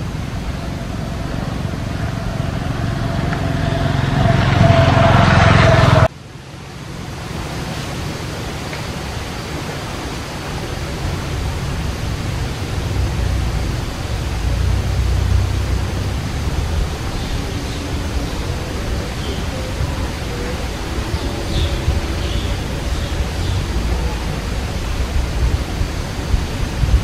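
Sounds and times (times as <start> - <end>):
loud steady tone: 0.0 - 8.6, 9.2 - 27.0
rushing noise with low rumble: 0.0 - 27.0.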